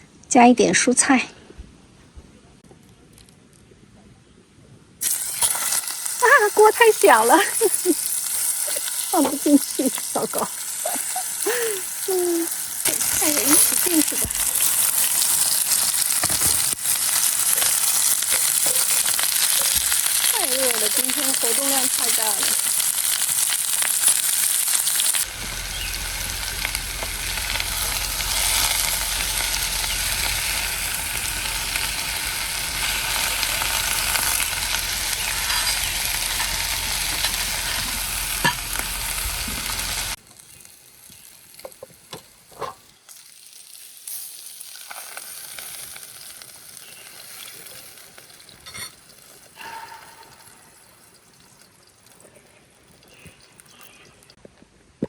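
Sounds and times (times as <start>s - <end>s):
food sizzling in a frying pan: 5.0s - 52.2s.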